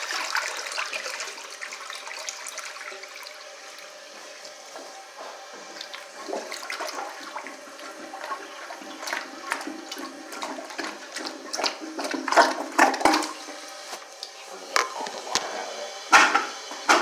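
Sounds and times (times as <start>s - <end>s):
toilet flushing: 0.0s - 17.0s.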